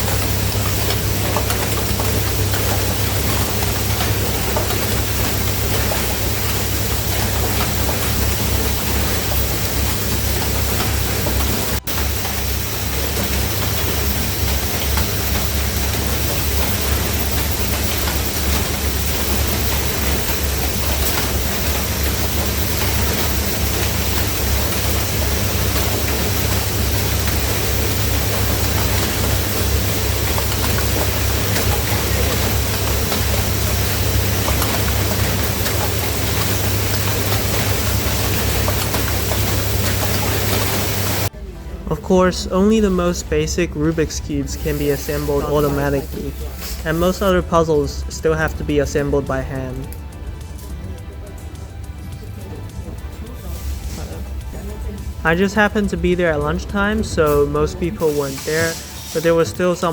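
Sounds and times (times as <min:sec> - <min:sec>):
factory assembly machines running: 0:00.0 - 0:59.9.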